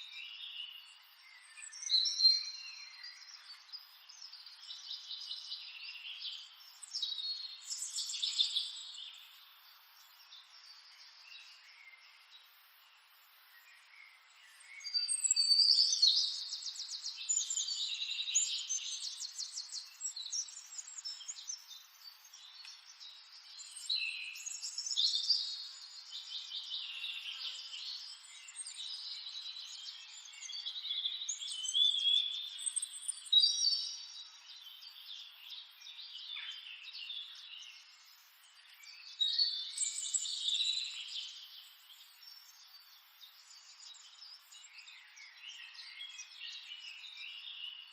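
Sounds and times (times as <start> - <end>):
songbirds singing and chirping: 0.0 - 47.9.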